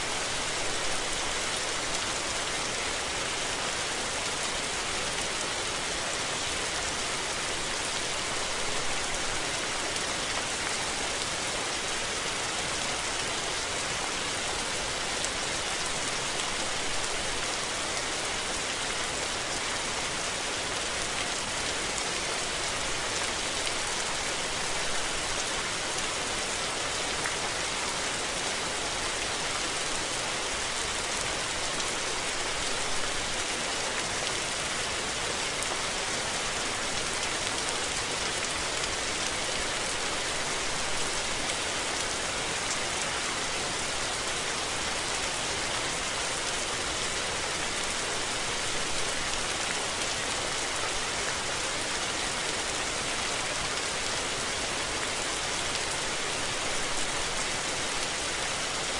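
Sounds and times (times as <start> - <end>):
steady rain pattering: 0.0 - 58.9.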